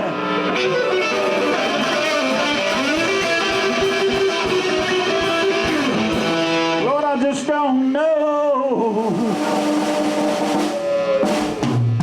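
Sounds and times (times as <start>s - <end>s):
electric guitar bent notes: 0.0s - 12.0s
live blues band playing: 0.0s - 12.0s.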